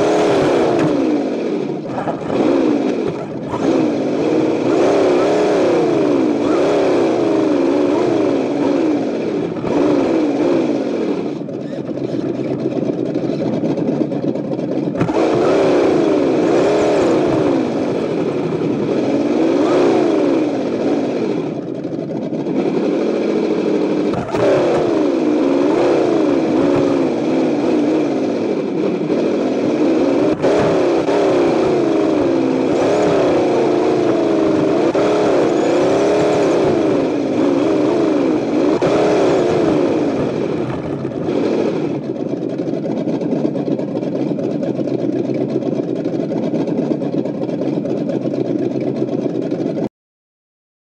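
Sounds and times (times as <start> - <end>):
simulated engine revving: 0.0 - 45.4.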